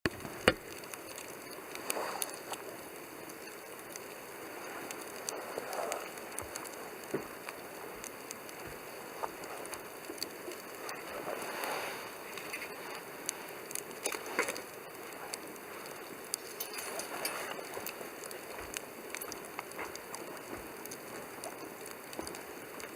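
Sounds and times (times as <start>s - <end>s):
wood fire crackling and popping: 0.0s - 22.9s
flame whooshing: 0.3s - 22.9s.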